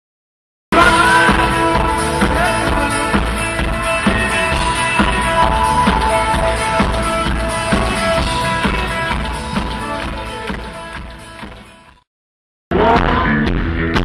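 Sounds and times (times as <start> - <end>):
live rock band: 0.7 - 12.0.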